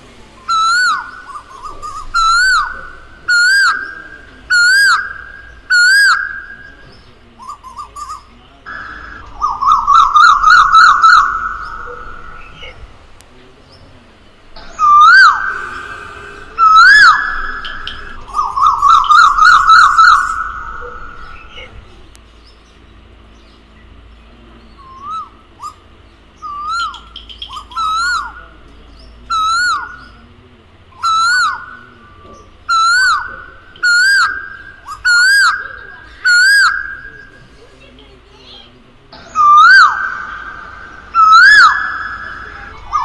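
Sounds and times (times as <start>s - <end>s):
koel calling: 0.0s - 13.2s, 14.4s - 22.2s, 24.8s - 43.0s.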